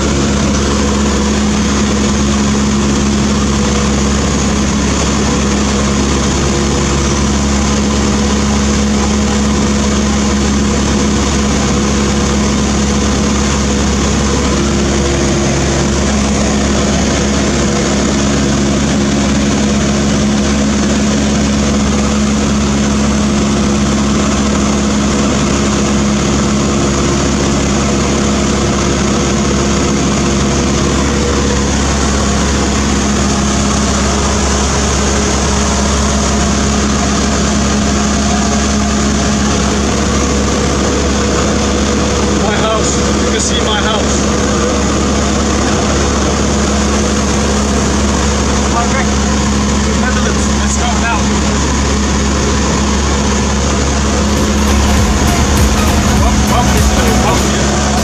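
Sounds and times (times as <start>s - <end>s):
airplane engine and propeller: 0.0s - 58.0s.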